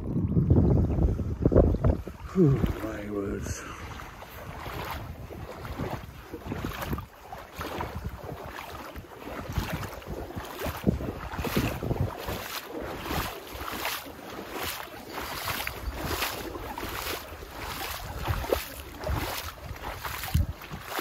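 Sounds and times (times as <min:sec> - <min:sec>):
footsteps sloshing through water: 0:00.0 - 0:21.0.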